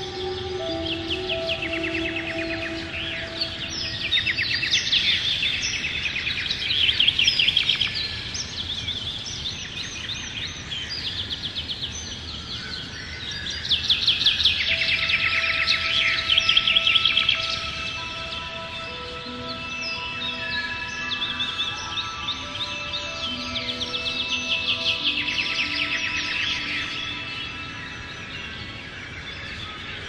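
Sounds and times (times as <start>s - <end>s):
soft ambient music pad: 0.0s - 30.0s
songbirds singing trilled chirps: 0.0s - 30.0s.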